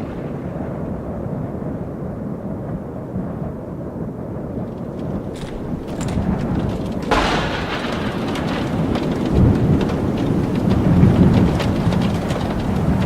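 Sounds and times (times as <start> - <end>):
steady rain: 0.0 - 13.0
thunder clap and rumbles: 0.0 - 13.0.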